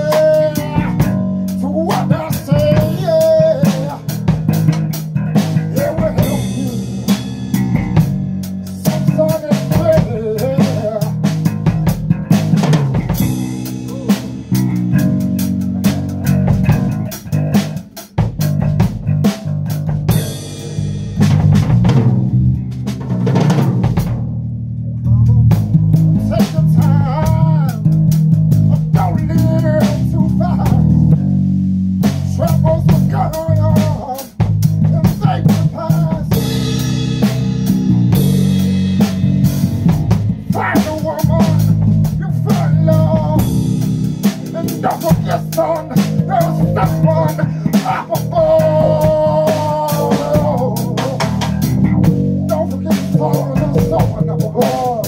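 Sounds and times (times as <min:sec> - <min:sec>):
drum kit playing: 0:00.0 - 0:55.0
electric bass guitar: 0:00.0 - 0:55.0.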